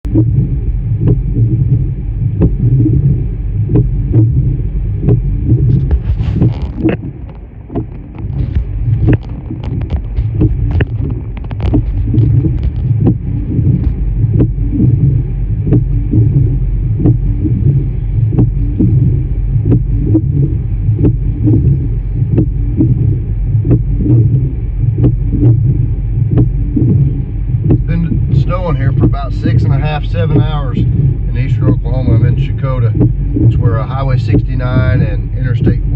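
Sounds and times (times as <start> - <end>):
vehicle rumbling: 0.0 - 35.9.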